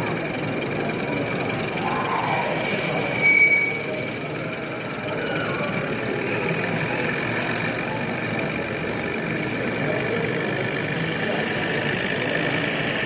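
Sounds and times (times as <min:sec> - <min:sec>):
indistinct crowd chatter: 0:00.0 - 0:13.0
model trains running: 0:00.0 - 0:13.0
thin steady whine: 0:00.0 - 0:13.0.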